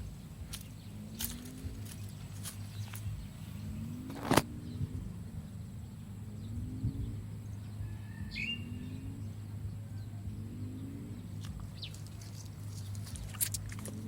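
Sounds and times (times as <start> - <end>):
bird chirping: 0.0 - 14.0
low rural background hum: 0.0 - 14.0.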